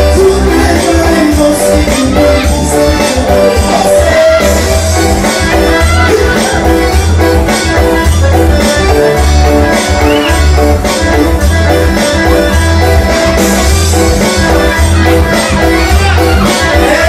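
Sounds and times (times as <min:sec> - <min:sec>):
loud dance music: 0:00.0 - 0:17.0.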